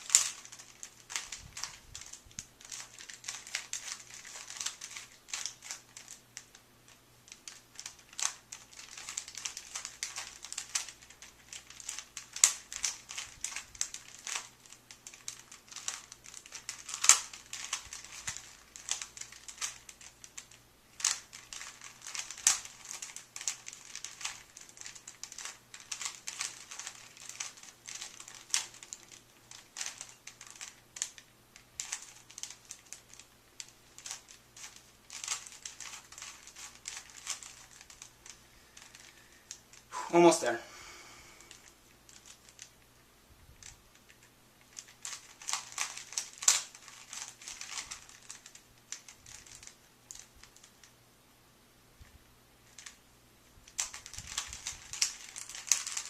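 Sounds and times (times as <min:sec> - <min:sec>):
puzzle cube clicking and rattling: 0:00.0 - 0:40.6, 0:41.5 - 0:42.8, 0:43.6 - 0:51.0, 0:52.7 - 0:53.0, 0:53.6 - 0:56.0.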